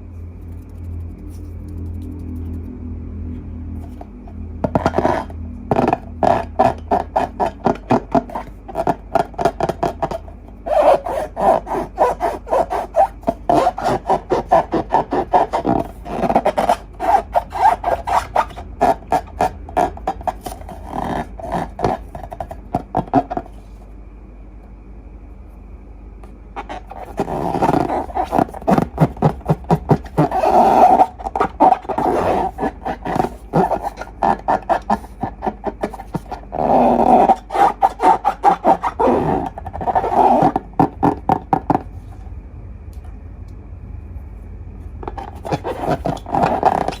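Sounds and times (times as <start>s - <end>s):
fast rhythmic rubbing strokes: 0.0s - 23.8s, 26.6s - 42.2s, 45.0s - 47.0s.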